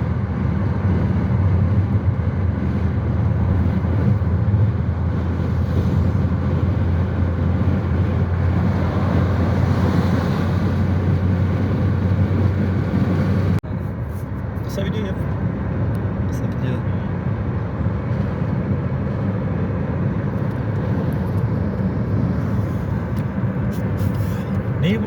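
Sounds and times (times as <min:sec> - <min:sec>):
road noise rushing: 0:00.0 - 0:25.0
vehicle engine hum: 0:00.0 - 0:25.0.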